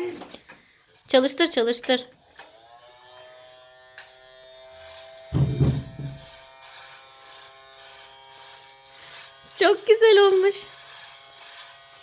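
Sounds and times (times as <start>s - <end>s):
toy vacuum motor whirring: 0.9s - 12.0s.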